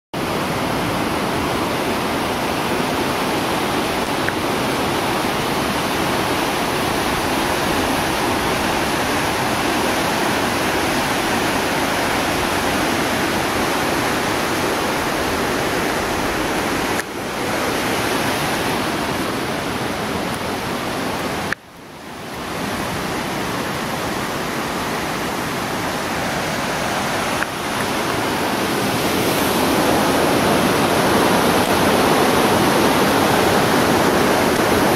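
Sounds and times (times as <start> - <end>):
stream in flood rushing: 0.2 - 34.9.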